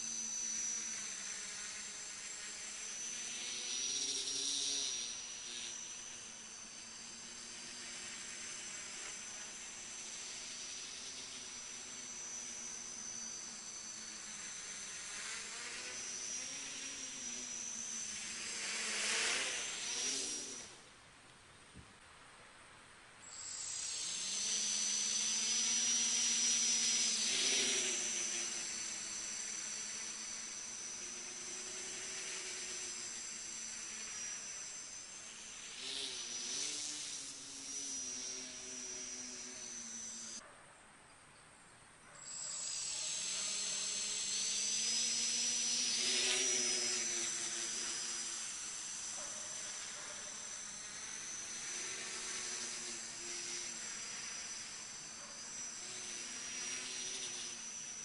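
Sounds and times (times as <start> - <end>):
quadcopter motors buzzing: 0.0 - 40.5, 41.9 - 58.0.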